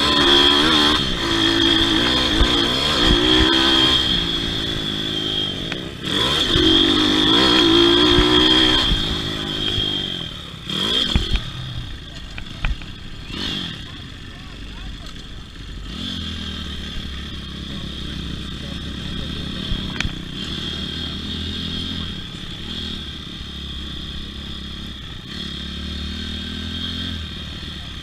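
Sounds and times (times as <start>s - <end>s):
pit bike engine revving: 0.0s - 28.0s.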